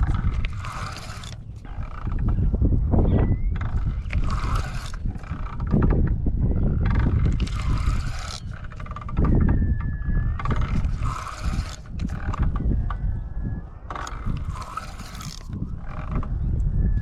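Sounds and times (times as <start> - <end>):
fishing reel cranking: 0.0 - 2.4, 3.6 - 12.6, 13.9 - 16.3
wind rumble on microphone: 0.0 - 17.0.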